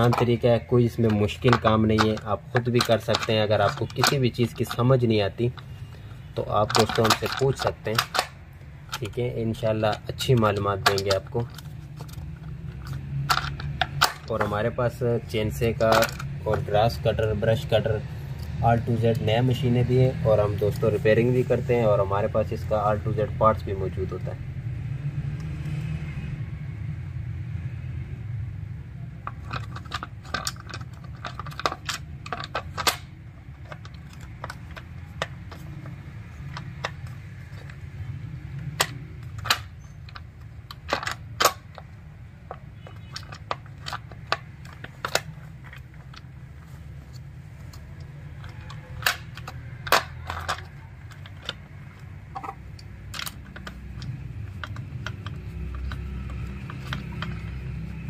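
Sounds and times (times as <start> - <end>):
plastic parts clicking and tapping: 0.0 - 19.6, 29.1 - 58.0.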